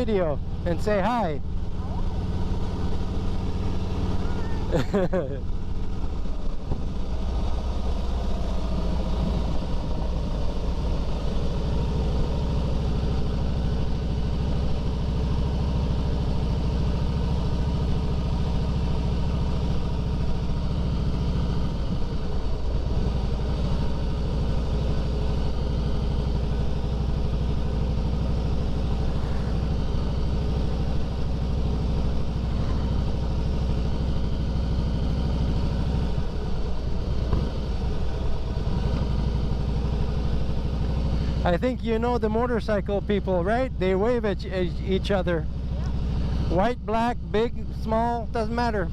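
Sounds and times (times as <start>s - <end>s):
motorcycle engine at low speed: 0.0s - 48.9s.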